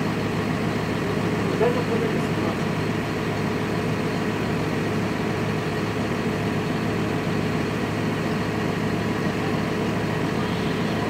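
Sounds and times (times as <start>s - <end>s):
backhoe engine idling: 0.0s - 11.0s.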